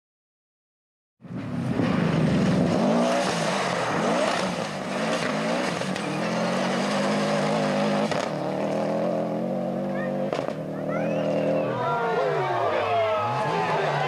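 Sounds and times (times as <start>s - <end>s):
rally car engine revving: 1.2s - 14.0s.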